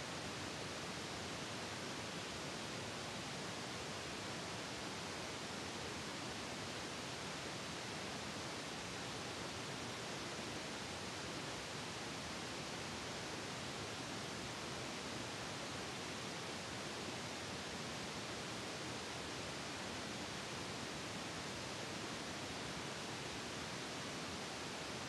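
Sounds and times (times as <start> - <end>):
static hiss: 0.0 - 25.0.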